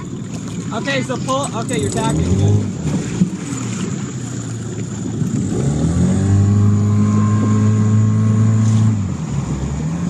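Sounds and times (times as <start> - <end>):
outboard motor speeding up: 0.0 - 10.0.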